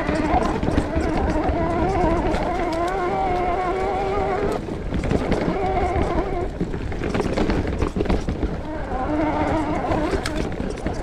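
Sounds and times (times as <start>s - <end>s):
bike disc brakes howling: 0.0s - 11.0s
tyres rumbling on trail: 0.0s - 11.0s.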